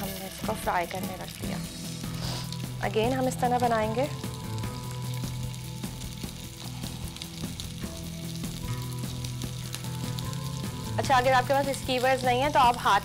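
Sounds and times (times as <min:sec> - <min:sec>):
kebab sizzling in a frying pan: 0:00.0 - 0:13.0.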